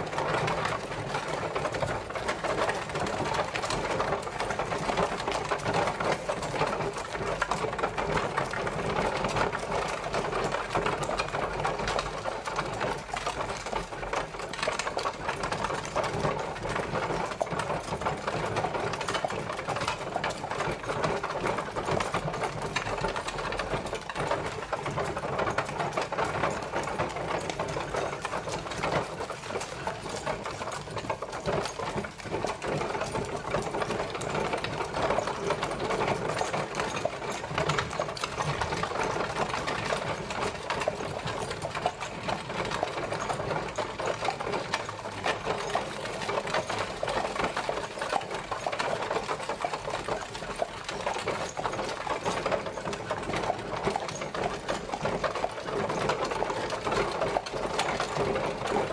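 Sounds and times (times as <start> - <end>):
carriage wheels clattering: 0.0 - 58.9.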